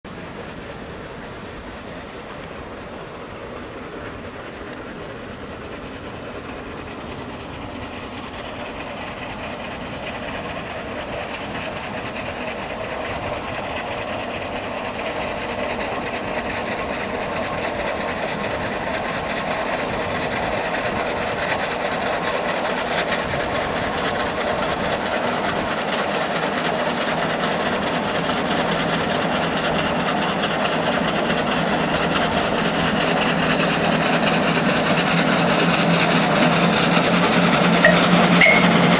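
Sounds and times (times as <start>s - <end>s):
steam engine labouring uphill: 0.0s - 38.9s.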